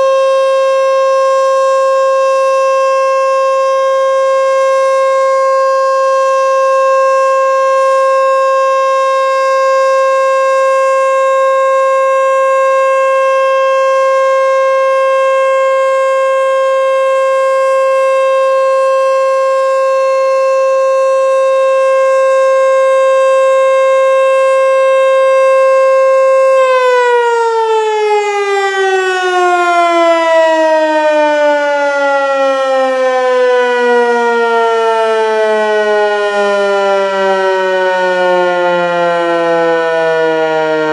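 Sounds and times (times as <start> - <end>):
siren steady tone winding down: 0.0 - 40.9.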